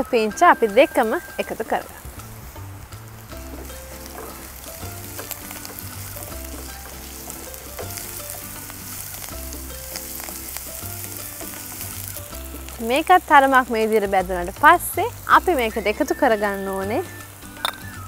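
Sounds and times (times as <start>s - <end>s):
light background music: 0.0s - 18.0s
vegetables sizzling in oil: 0.0s - 18.0s.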